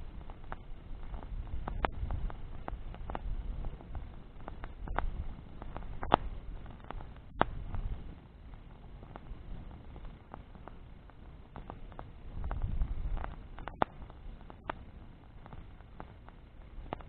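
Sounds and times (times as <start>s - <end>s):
bonfire crackling: 0.0s - 17.0s
low steady rumble: 0.0s - 17.0s
sharp pops from fire: 0.0s - 17.0s.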